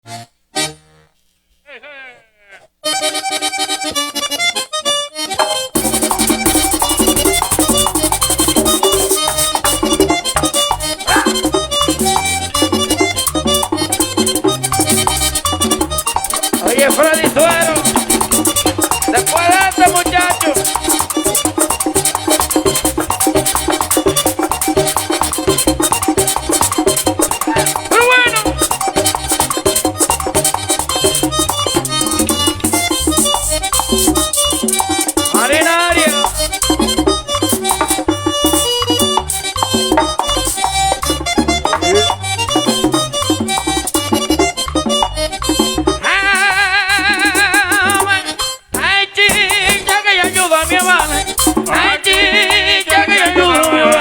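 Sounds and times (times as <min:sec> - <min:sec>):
accordion melody: 0:00.0 - 0:54.0
bass line: 0:05.2 - 0:54.0
guira scraping: 0:05.3 - 0:54.0
rapid percussion: 0:05.3 - 0:54.0
tambora drum: 0:05.3 - 0:54.0.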